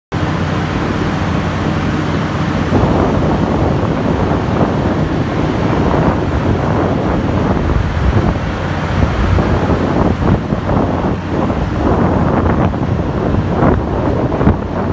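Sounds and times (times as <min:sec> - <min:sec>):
drilling rig engine drone: 0:00.1 - 0:14.9
loud rushing noise: 0:00.1 - 0:14.9.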